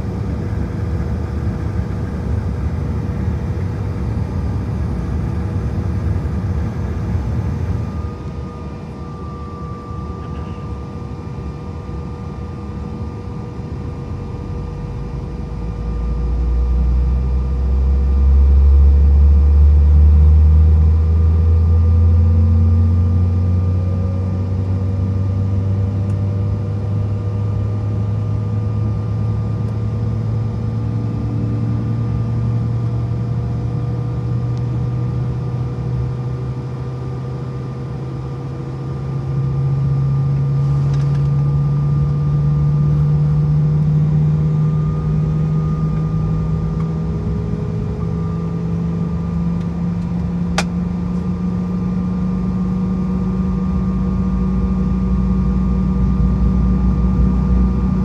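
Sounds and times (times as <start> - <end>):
low engine rumble: 0.0 - 12.0, 12.6 - 58.0
steady hum: 0.0 - 19.8, 29.2 - 58.0
jet engine whine rising: 0.0 - 58.0.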